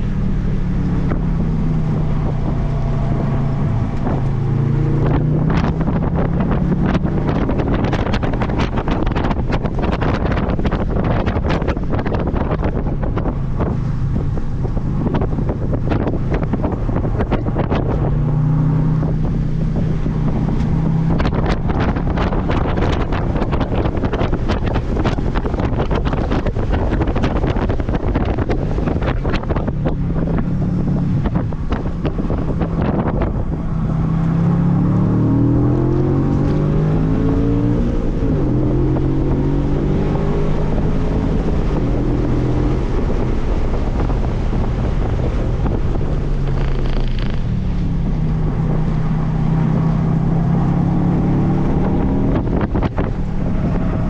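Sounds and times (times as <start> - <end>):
car engine at speed: 0.0 - 54.0
wind buffeting on microphone: 0.0 - 54.0.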